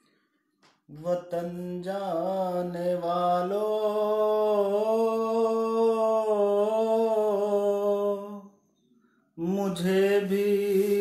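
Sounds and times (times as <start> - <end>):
man singing unaccompanied: 0.9 - 8.5, 9.4 - 11.0.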